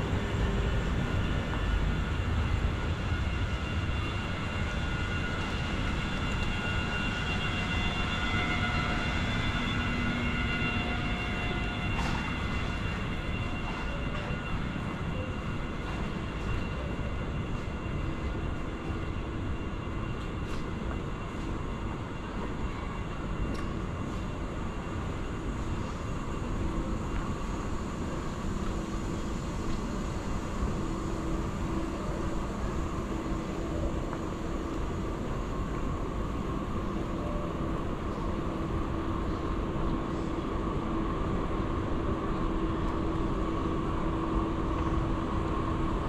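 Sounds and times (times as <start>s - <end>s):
low city rumble: 0.0s - 46.0s.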